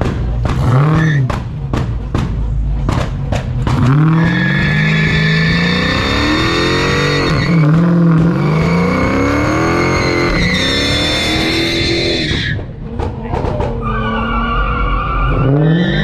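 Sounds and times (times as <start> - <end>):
tires squealing: 0.0 - 1.8, 2.9 - 16.0
car engine revving: 0.0 - 16.0.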